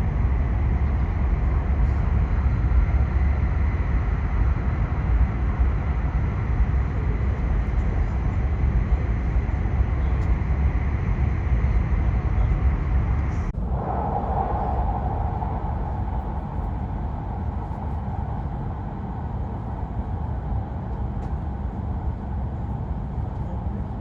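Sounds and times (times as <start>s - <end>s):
train rumble inside passenger car: 0.0s - 13.6s, 15.2s - 24.0s.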